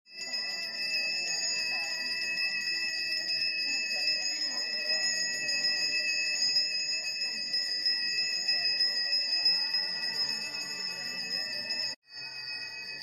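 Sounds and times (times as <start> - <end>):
hand bell ringing: 0.1 - 13.0
faint voices: 0.2 - 13.0.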